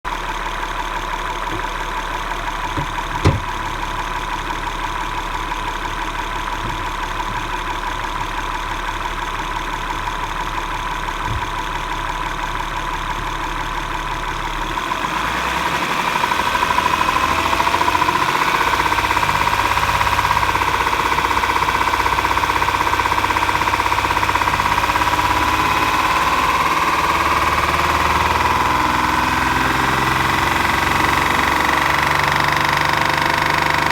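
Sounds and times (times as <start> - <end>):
car engine knocking and ticking: 0.1 - 33.9.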